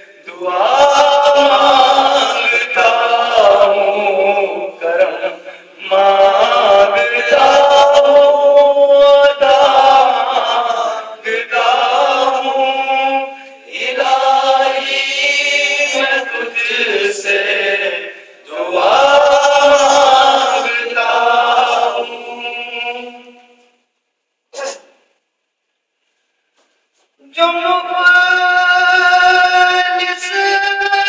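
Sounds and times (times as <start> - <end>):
man singing unaccompanied hymn: 0.0 - 23.6, 27.2 - 31.0.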